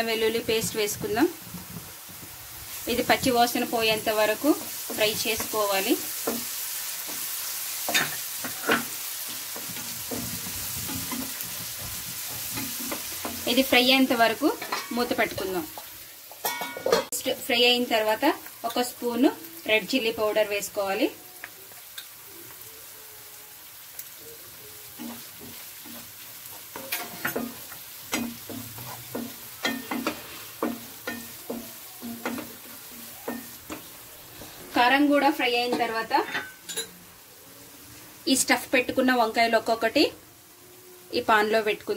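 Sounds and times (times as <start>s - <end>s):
food sizzling in oil: 0.0s - 41.9s.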